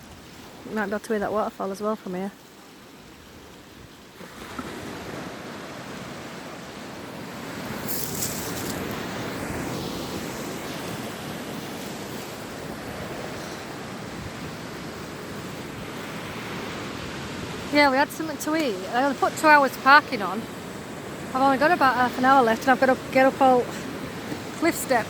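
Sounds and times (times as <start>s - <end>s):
sea surf washing onto beach: 0.0s - 25.0s.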